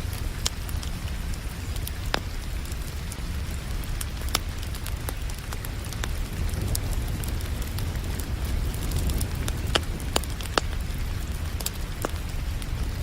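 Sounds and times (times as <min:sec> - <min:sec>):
rain hiss: 0:00.0 - 0:13.0
wood fire crackling: 0:00.0 - 0:13.0.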